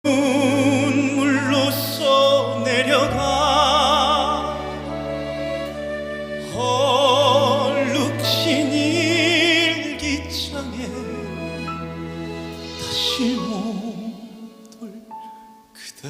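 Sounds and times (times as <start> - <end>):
person singing with vibrato: 0.0 - 5.8, 6.4 - 16.0.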